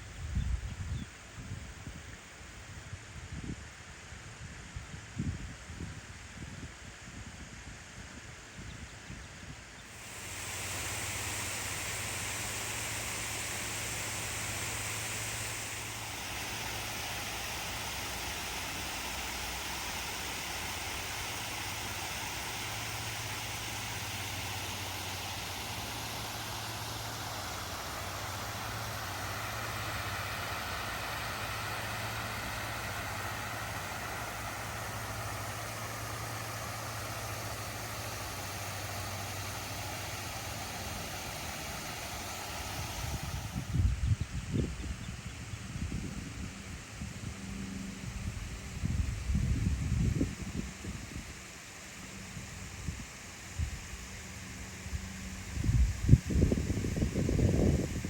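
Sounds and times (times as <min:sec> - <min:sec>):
broad hiss: 0:09.8 - 0:58.0.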